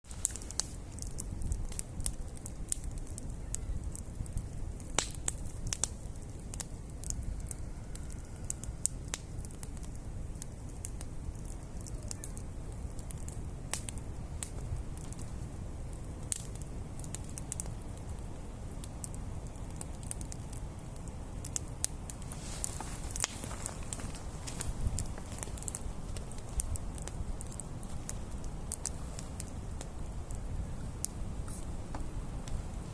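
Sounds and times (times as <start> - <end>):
campfire crackling: 0.1 - 32.9.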